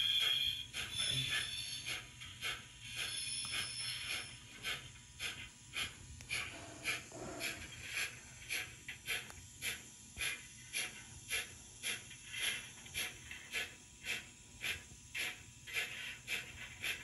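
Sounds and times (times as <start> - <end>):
steam locomotive chuffs from speaker: 0.0 - 17.0.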